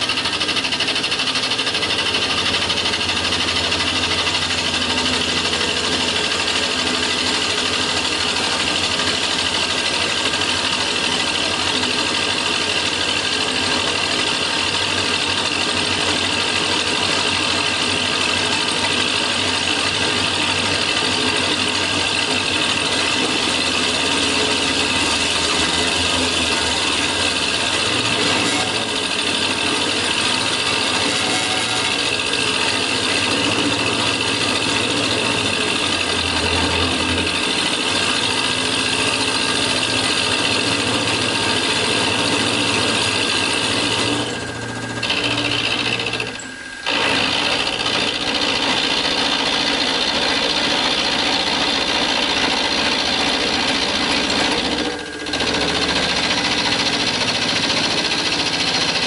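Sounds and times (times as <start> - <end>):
mill cutting metal: 0.0 - 59.0
spindle motor: 0.0 - 59.0.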